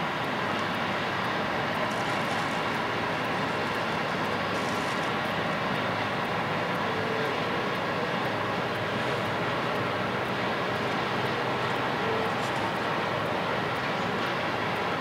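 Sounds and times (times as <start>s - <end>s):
jet airliner engines taxiing: 0.0s - 15.0s.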